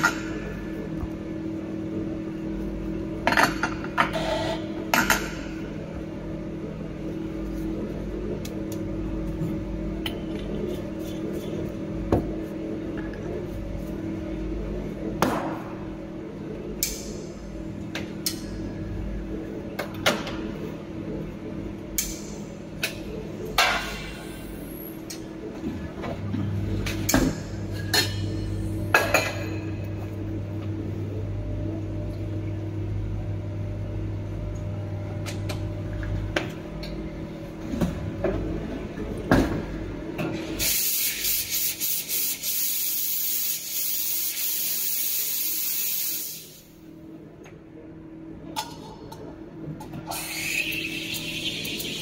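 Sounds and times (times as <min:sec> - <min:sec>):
steady low hum: 0:00.0 - 0:42.2, 0:46.2 - 0:52.0.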